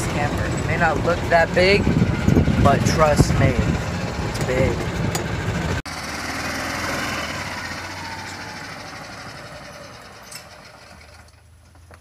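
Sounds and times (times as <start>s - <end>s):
golf cart engine driving off: 0.0s - 11.8s.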